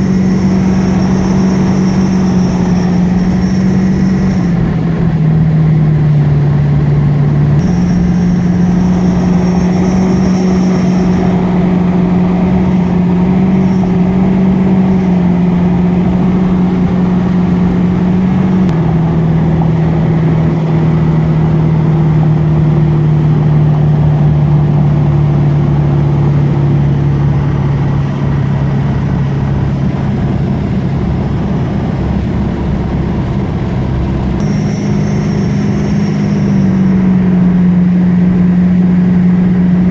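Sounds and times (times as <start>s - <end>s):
thin high whine: 0.0s - 29.3s, 34.3s - 39.9s
vehicle engine drone: 0.0s - 39.9s.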